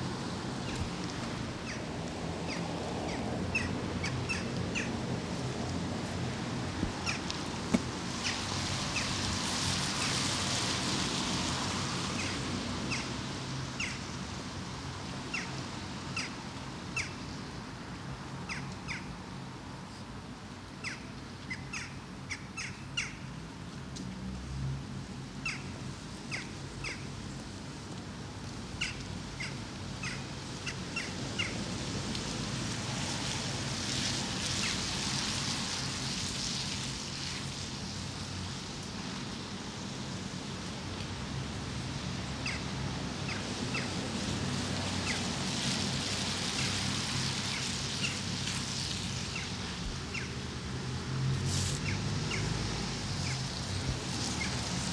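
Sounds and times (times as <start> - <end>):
steady outdoor hiss: 0.0 - 54.9.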